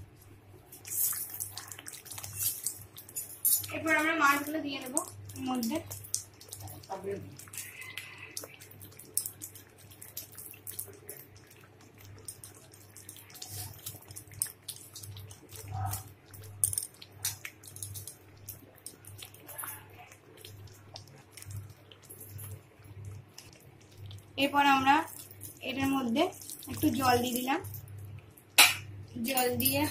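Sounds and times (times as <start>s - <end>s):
gravy sizzling and crackling: 0.0s - 29.9s.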